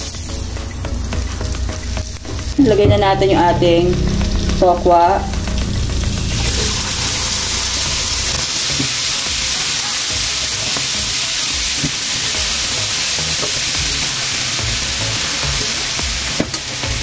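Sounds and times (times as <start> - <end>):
food sizzling on hot plate: 0.0 - 2.8, 5.4 - 17.0.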